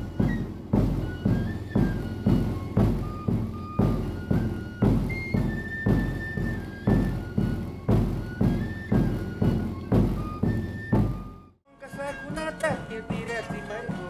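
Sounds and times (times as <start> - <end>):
drum beats: 0.0 - 14.0
flute-like wind instrument melody: 0.0 - 14.0.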